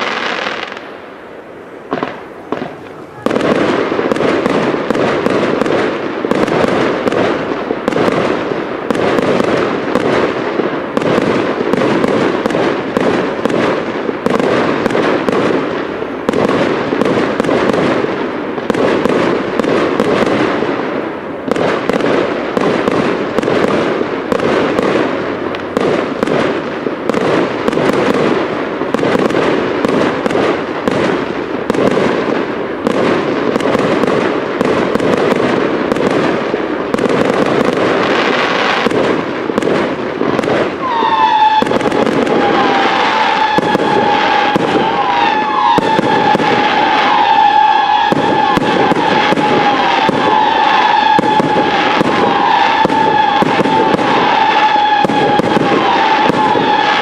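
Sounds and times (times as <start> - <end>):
fireworks bursts and bangs: 0.0 - 57.0.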